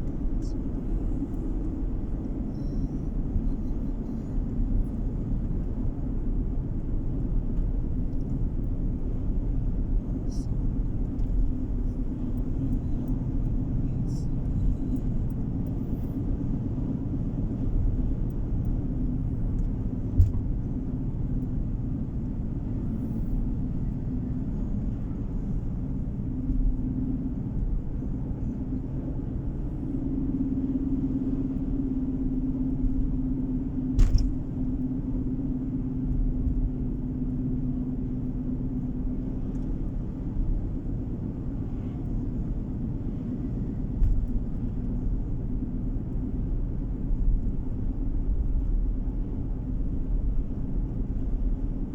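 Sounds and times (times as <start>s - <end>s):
tyres and engine rumbling: 0.0s - 51.9s.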